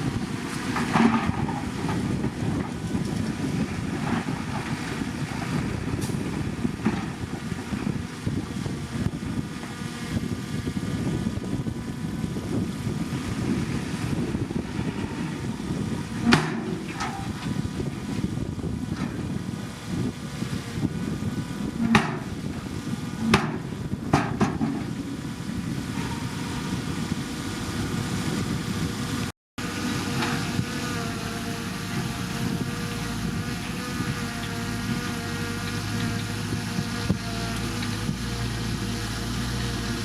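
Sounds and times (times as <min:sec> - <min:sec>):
bulldozer diesel engine: 0:00.0 - 0:40.0.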